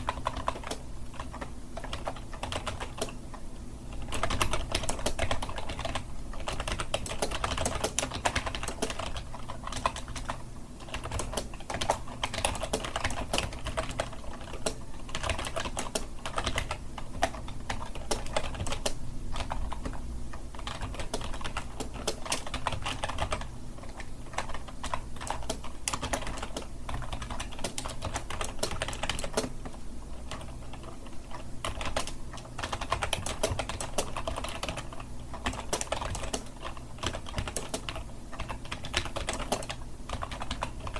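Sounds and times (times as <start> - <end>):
faint low hum: 0.0 - 40.9
keyboard typing clicks: 0.0 - 40.9.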